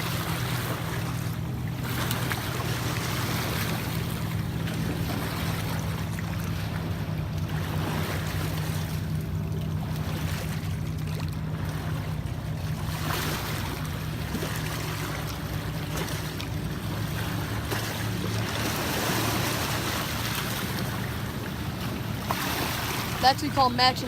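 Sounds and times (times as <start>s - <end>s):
low steady hum: 0.0s - 24.0s
water washing: 0.0s - 24.0s.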